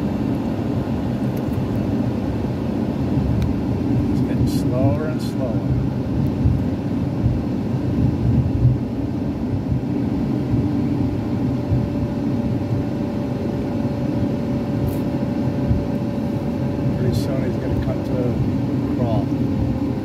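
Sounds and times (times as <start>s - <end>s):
engine and road noise in cabin: 0.0s - 20.0s
faint steady whine: 0.0s - 20.0s.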